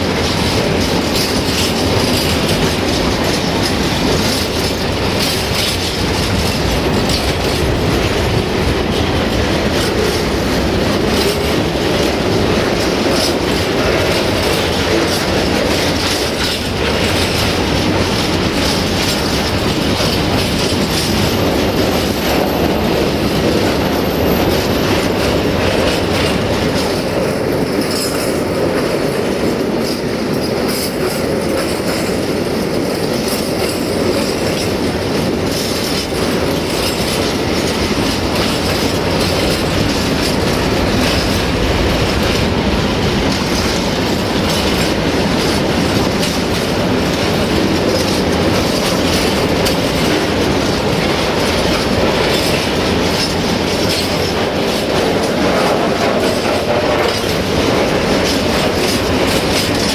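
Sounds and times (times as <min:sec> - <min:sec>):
steel wheels rumbling on rails: 0:00.0 - 0:59.9
wheels clattering over rail joints: 0:00.0 - 0:59.9.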